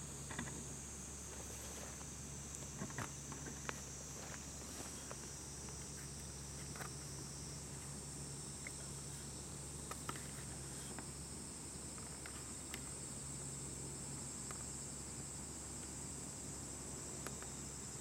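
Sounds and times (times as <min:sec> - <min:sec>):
insects chirring in grass: 0:00.0 - 0:18.0
low steady hum: 0:00.0 - 0:18.0.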